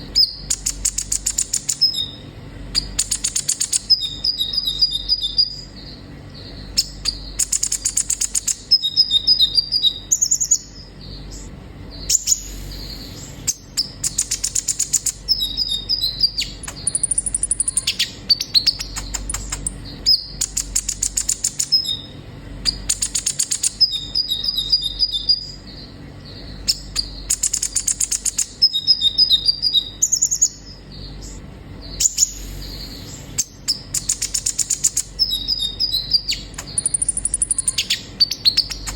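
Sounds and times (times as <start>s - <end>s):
bird buzzy trills and whistles: 0.0s - 38.9s.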